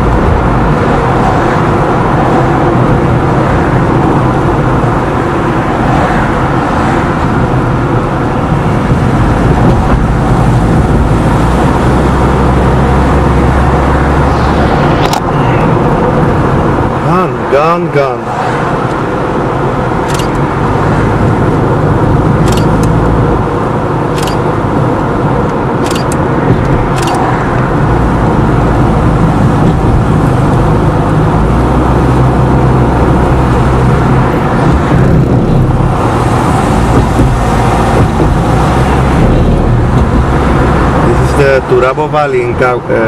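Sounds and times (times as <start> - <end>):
car engine hum: 0.0 - 43.0
tyre-on-road noise: 0.0 - 43.0.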